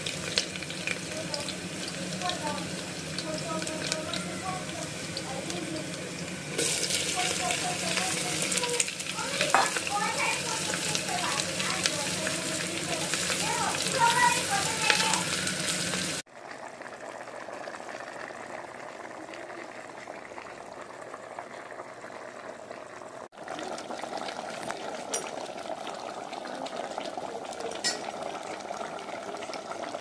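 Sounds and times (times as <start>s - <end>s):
chicken bubbling in a pan: 0.0s - 30.0s.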